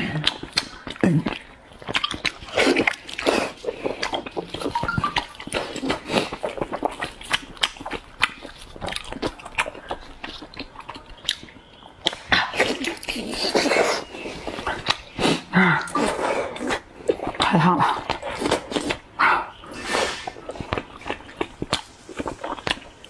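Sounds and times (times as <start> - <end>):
person chewing with wet smacking: 0.0 - 23.0.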